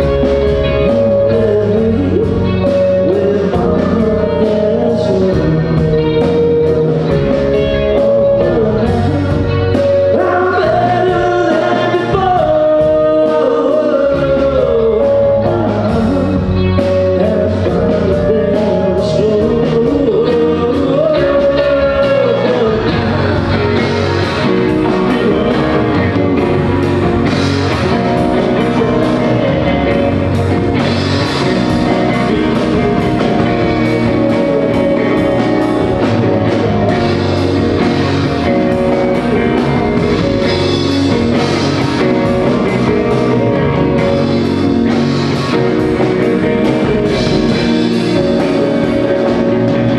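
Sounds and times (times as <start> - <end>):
person singing lead vocal: 0.0 - 49.9
rock band playing: 0.0 - 49.9.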